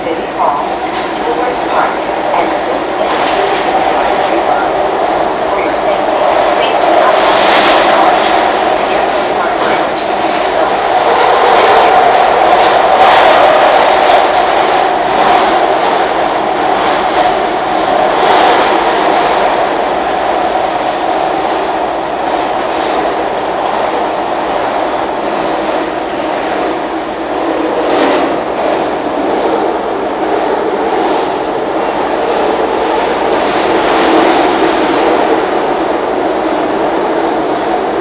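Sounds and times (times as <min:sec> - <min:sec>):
subway car rumble and rail noise: 0:00.0 - 0:38.0.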